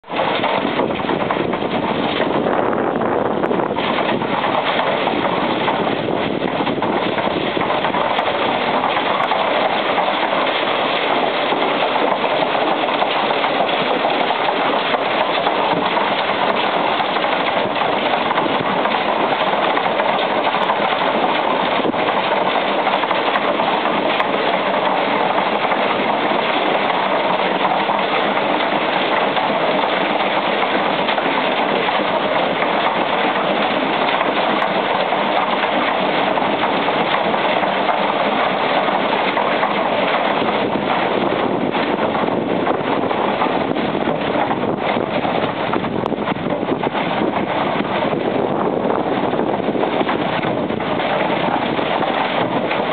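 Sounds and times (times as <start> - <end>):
concrete mixer drum churning: 0.0 - 52.9
tractor engine running: 0.0 - 52.9.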